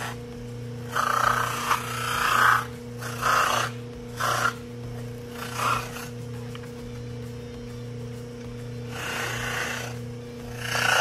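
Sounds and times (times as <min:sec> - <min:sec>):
bench buffer motor hum: 0:00.0 - 0:11.0.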